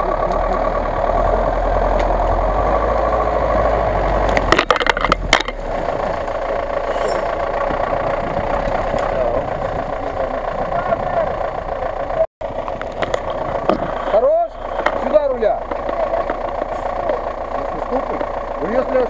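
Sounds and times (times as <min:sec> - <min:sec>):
truck engine running under load: 0:00.0 - 0:19.0.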